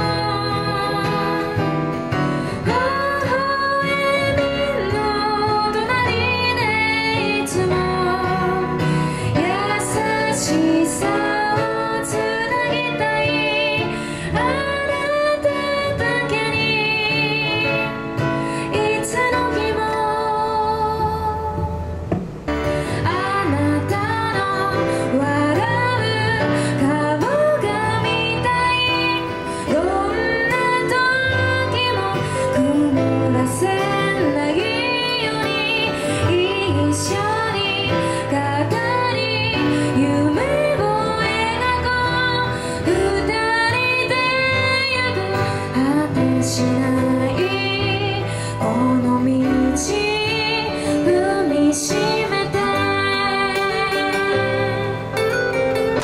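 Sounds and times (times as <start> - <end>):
woman singing: 0.0 - 22.0, 22.8 - 55.2
instrumental accompaniment: 0.0 - 56.0.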